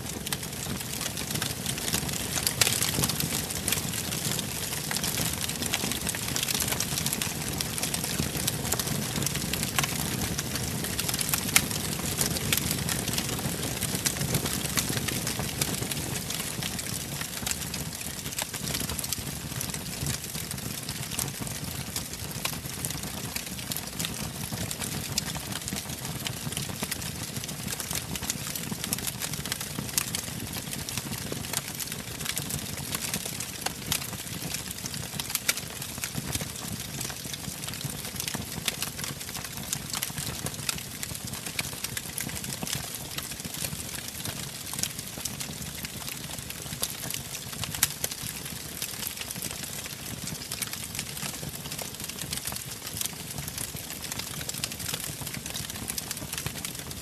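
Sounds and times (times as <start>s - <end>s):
wood fire crackling and popping: 0.0s - 57.0s
low rumble of flames: 0.1s - 52.4s.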